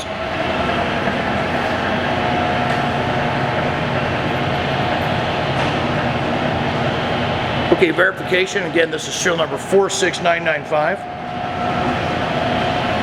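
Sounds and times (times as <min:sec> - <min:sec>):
lathe humming: 0:00.0 - 0:13.0.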